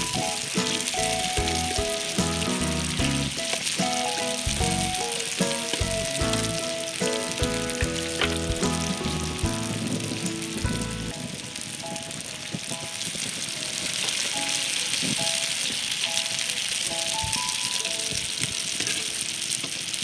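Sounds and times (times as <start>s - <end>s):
background music melody: 0.0s - 20.0s
dough sizzling in hot oil: 0.0s - 20.0s.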